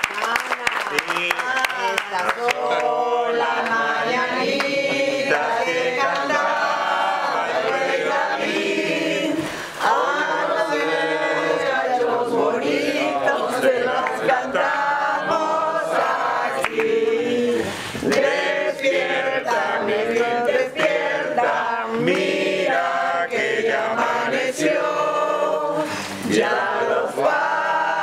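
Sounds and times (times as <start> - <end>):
group singing without instruments: 1.4 - 28.0.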